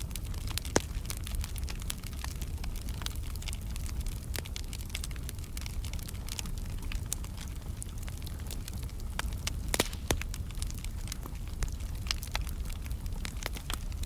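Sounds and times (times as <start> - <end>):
low rumble of fire: 0.0 - 14.0
wood fire crackling and popping: 0.0 - 14.0.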